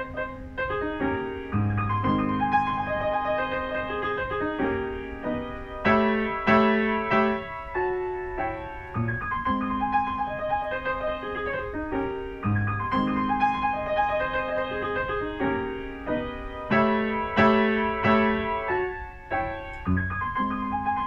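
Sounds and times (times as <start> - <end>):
solo classical piano: 0.0 - 21.0.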